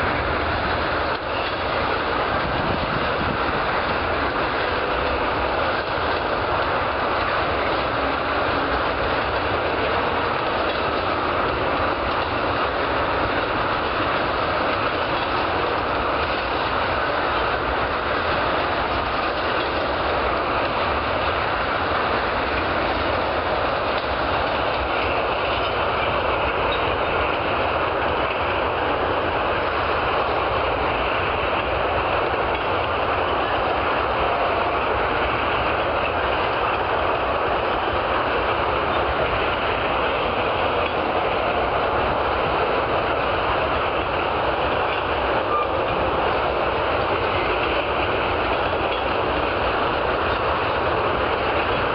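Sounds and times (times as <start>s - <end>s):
freight train wheels on rails: 0.0s - 51.9s.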